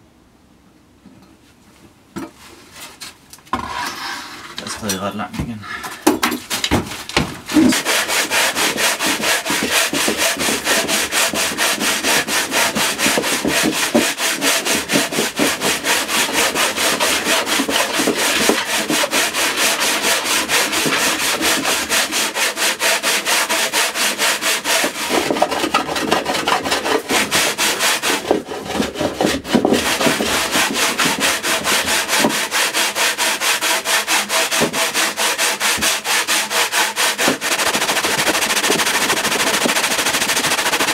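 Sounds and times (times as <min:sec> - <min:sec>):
hand tool rubbing on wood: 0:07.5 - 0:40.9.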